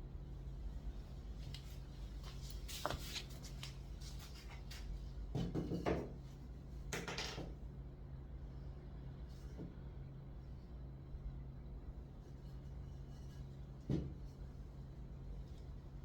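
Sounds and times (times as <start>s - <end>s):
steady low hum: 0.0s - 5.4s, 7.5s - 16.0s.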